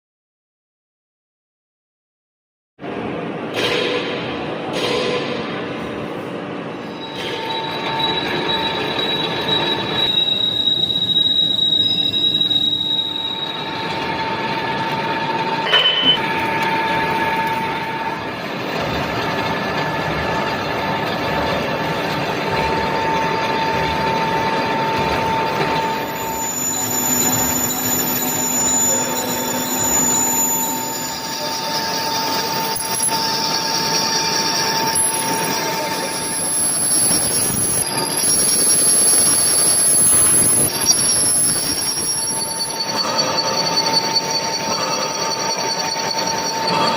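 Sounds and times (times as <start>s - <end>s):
high squealing of tool on metal: 6.8s - 46.9s
metal lathe cutting: 7.4s - 46.9s.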